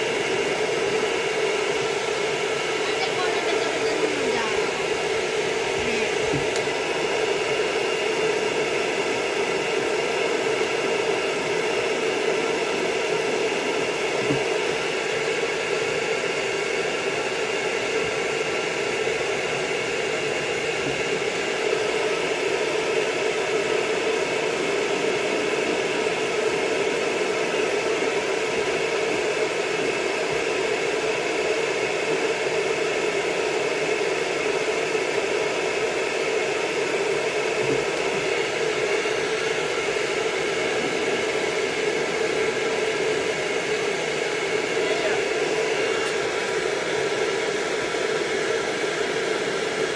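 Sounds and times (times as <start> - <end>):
pet dryer blowing air: 0.0 - 49.9.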